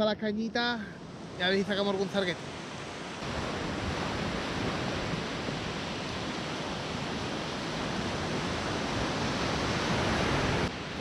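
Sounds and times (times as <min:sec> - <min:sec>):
waves washing up a beach: 0:00.6 - 0:11.0.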